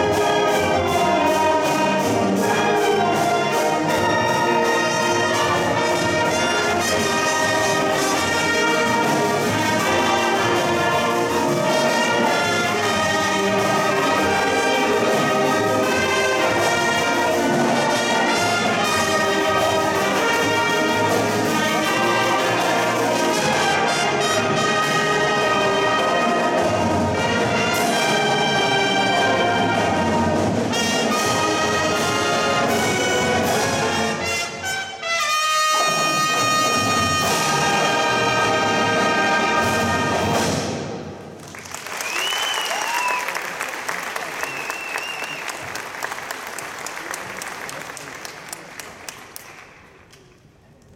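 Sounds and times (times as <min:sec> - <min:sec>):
trumpets and trombones: 0:00.0 - 0:41.2
marching band playing: 0:00.0 - 0:47.7.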